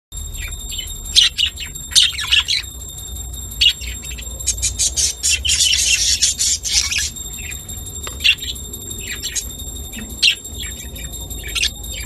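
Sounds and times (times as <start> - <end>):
budgerigars chirping and chattering: 0.4 - 12.0.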